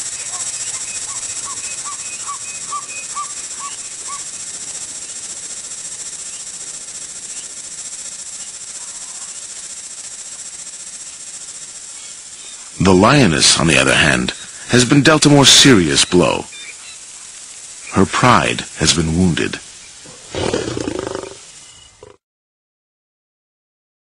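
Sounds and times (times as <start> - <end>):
steady high hiss: 0.0 - 22.2.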